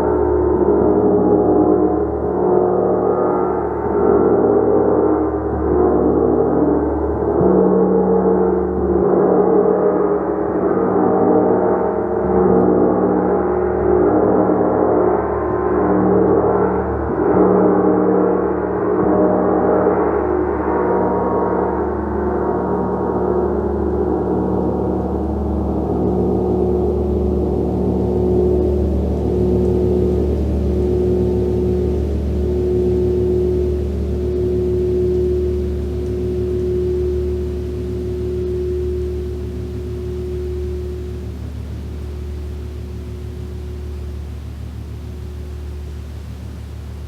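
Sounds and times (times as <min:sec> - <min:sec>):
shimmering gong: 0:00.0 - 0:47.0.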